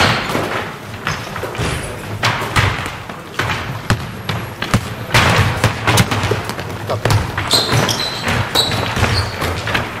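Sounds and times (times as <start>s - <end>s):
basketballs bouncing on wooden floor: 0.0s - 10.0s.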